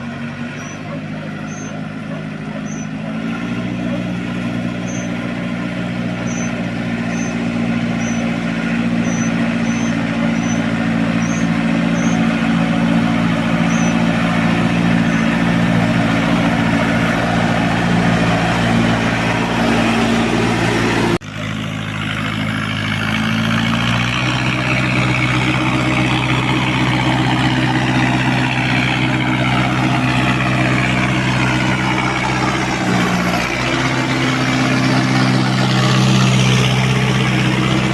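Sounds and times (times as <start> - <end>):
tractor diesel engine droning: 0.0 - 37.9.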